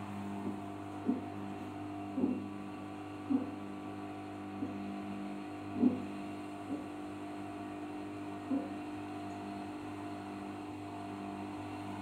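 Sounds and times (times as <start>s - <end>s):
washing machine motor hum: 0.0s - 12.0s.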